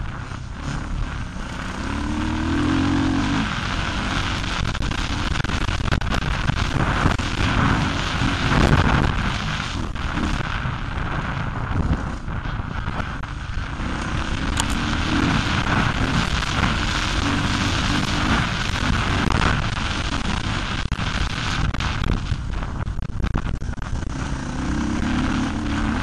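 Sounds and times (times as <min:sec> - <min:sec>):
motorcycle engine revving: 0:00.0 - 0:26.0
wind buffeting on microphone: 0:03.4 - 0:26.0.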